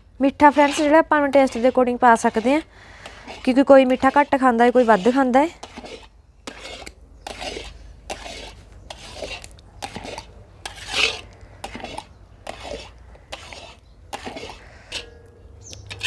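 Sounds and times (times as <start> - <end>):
metal scraper scraping a pan: 0.3 - 16.0.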